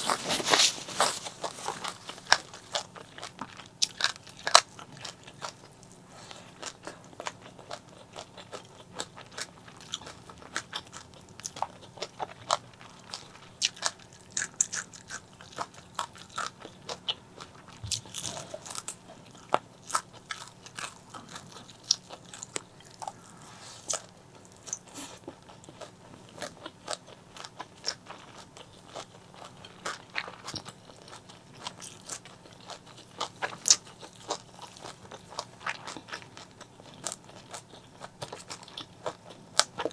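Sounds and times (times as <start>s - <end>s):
crunchy chewing of fried food: 0.0s - 39.9s.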